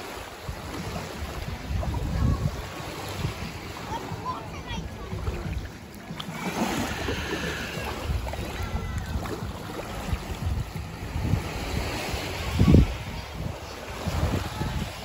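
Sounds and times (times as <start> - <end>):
small waves washing over sand: 0.0 - 15.0
wind rumbling on microphone: 0.0 - 15.0.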